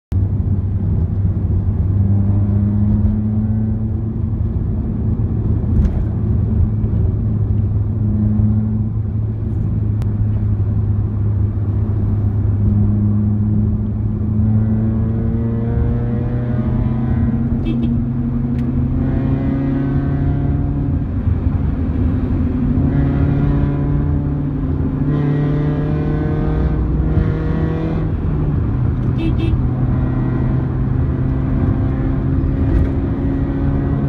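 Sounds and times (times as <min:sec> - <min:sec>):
car engine droning: 0:00.1 - 0:34.0
road noise: 0:00.1 - 0:34.0.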